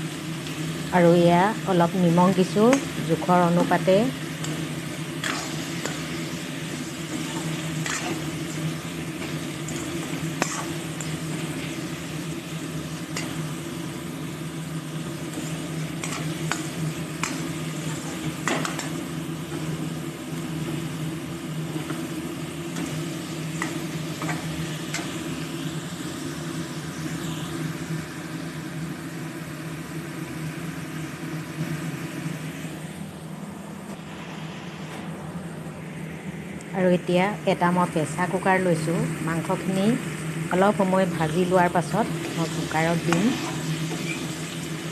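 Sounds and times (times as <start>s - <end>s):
chicken sizzling in oil: 0.0s - 33.0s, 38.9s - 44.9s.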